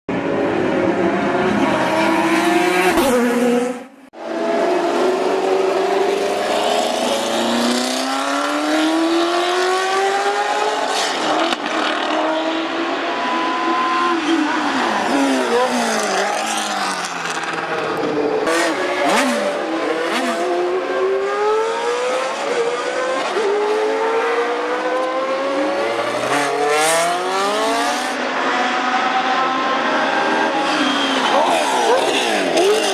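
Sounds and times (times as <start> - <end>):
racing car engines passing: 0.1 - 32.9.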